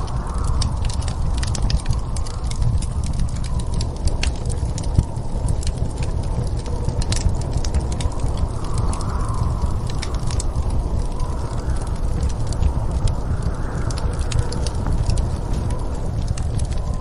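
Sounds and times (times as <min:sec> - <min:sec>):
storm wind rumbling: 0:00.0 - 0:17.0
wood fire crackling and popping: 0:00.0 - 0:17.0.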